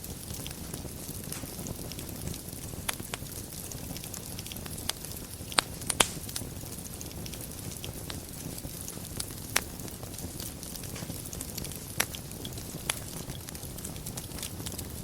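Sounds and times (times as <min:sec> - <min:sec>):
fire crackling and popping: 0:00.0 - 0:15.0
fire rumbling and hissing: 0:00.0 - 0:15.0.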